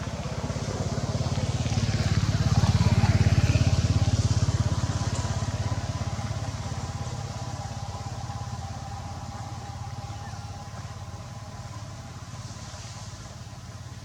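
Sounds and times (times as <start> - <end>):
small engine pulsing: 0.0 - 14.0.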